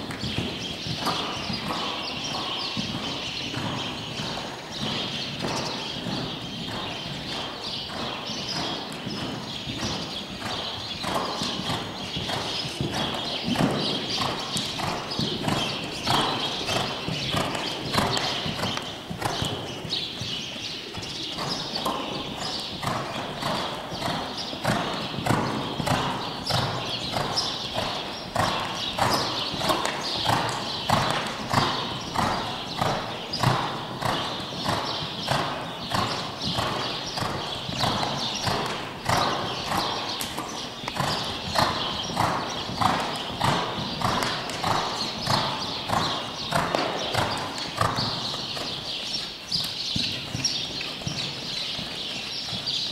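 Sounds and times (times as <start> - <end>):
horse hoofbeats on sand: 0.0 - 52.9.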